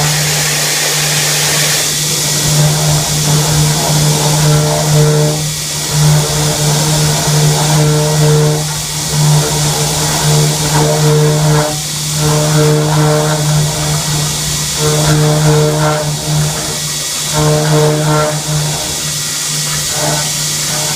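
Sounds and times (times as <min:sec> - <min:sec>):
milling machine hum and hiss: 0:00.0 - 0:20.9
pitched metal cutting tone: 0:00.0 - 0:20.9.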